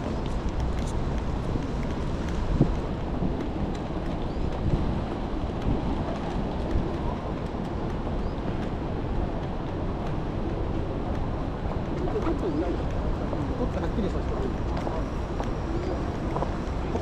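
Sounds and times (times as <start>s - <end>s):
rain: 0.0s - 17.0s
traffic rumble: 0.0s - 17.0s.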